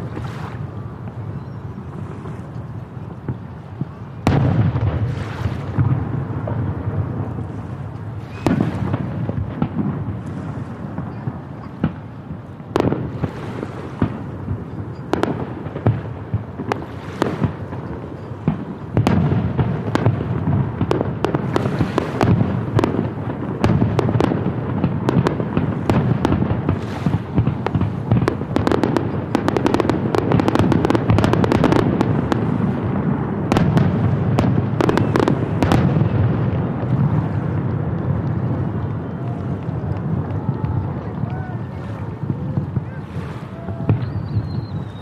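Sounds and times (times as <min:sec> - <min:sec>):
continuous rumble: 0:00.0 - 0:45.0
fireworks bursting with bangs: 0:00.0 - 0:45.0.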